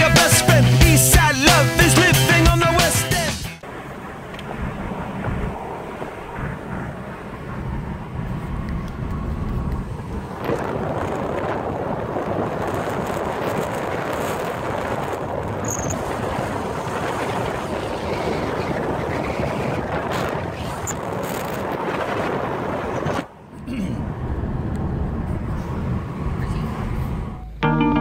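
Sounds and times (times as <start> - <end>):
car road and wind noise: 3.6 - 27.6.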